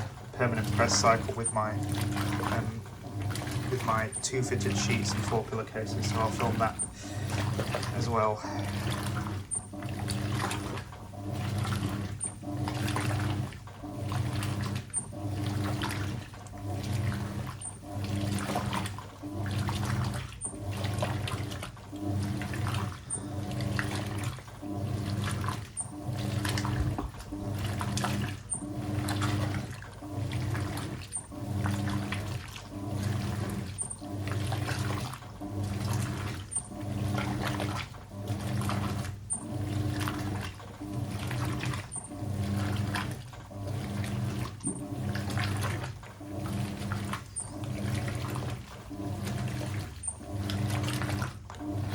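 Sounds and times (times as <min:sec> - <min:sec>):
washing machine motor hum: 0:00.0 - 0:51.9
water sloshing: 0:00.0 - 0:51.9.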